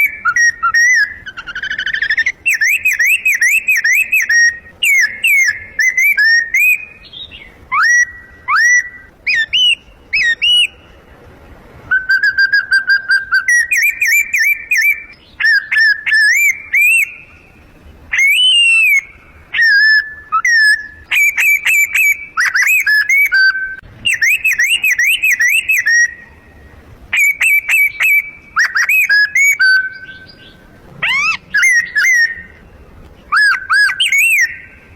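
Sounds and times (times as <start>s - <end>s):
man whistling bird song: 0.0s - 10.8s, 11.9s - 17.4s, 18.2s - 32.6s, 33.3s - 34.8s.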